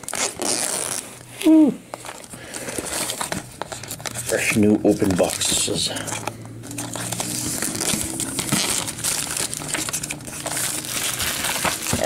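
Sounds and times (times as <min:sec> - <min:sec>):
plastic shrink-wrap crinkling: 0:00.0 - 0:12.0.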